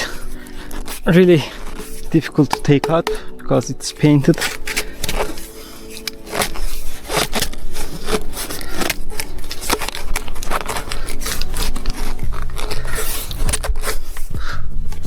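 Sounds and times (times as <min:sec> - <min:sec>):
scraping and rubbing: 0:00.0 - 0:15.0.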